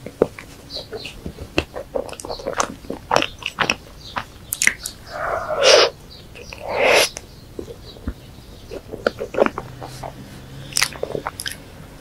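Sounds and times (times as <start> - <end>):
wet sticky chewing: 0.0 - 11.7.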